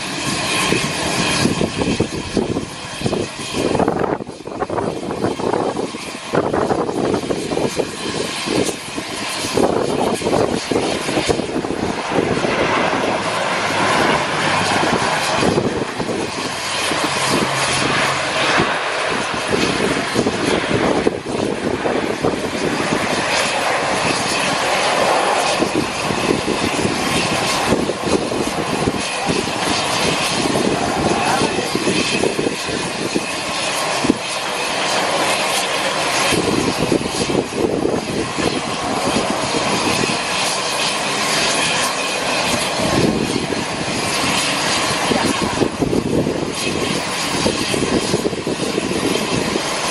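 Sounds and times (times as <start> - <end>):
turboprop engines running: 0.0 - 49.9.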